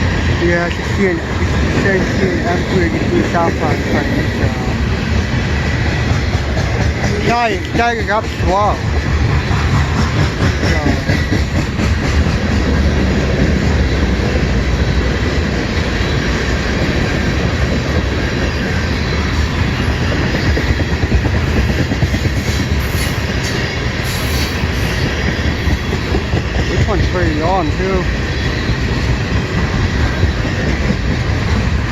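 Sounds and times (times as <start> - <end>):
freight train passing: 0.0 - 31.9
steel wheels on rails: 0.0 - 31.9.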